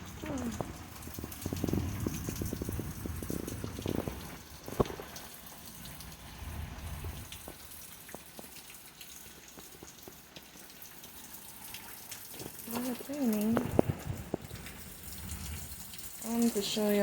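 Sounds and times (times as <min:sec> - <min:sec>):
drips ticking: 0:00.0 - 0:17.0
rain falling: 0:00.0 - 0:17.0.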